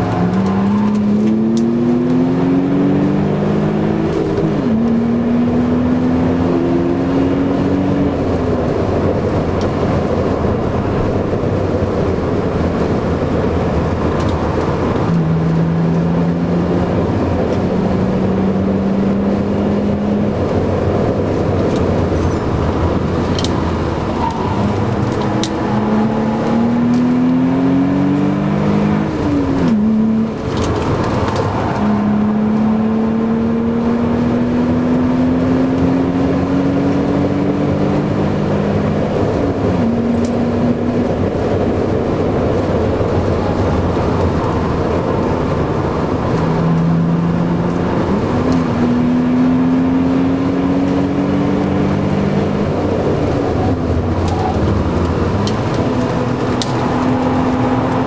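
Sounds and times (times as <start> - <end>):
car engine accelerating: 0.0 - 58.0
wind noise: 0.0 - 58.0.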